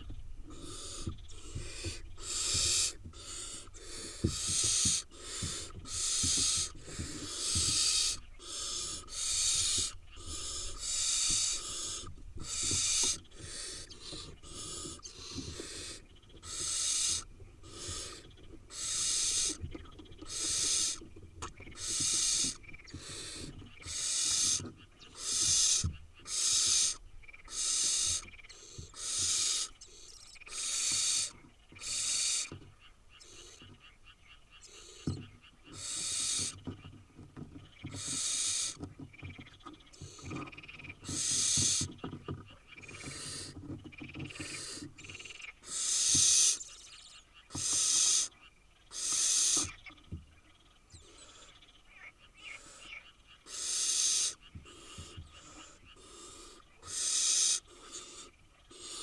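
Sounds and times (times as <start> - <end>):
owl chicks hissing begging calls: 0.0 - 34.0, 34.6 - 36.7, 37.7 - 42.1, 42.8 - 50.1, 50.9 - 59.0.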